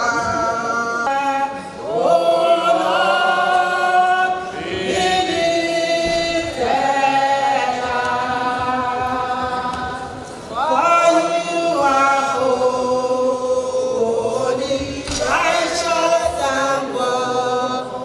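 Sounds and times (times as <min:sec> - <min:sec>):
woman singing into a microphone: 0:00.0 - 0:02.8, 0:03.4 - 0:18.0
group singing unaccompanied: 0:00.0 - 0:18.0.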